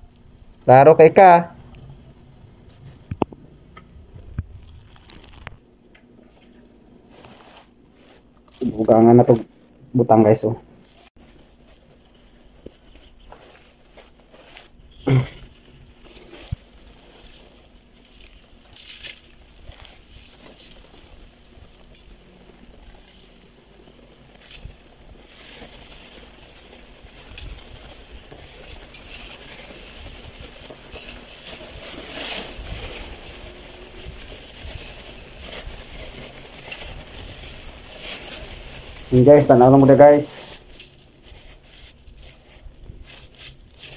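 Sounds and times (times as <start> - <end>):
plastic bag crinkling: 4.1 - 43.9.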